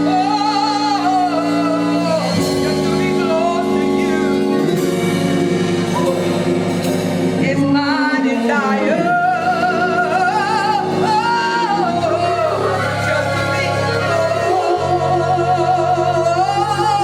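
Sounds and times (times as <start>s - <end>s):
gospel vocal with vibrato: 0.0s - 17.0s
sustained chords: 0.0s - 17.0s.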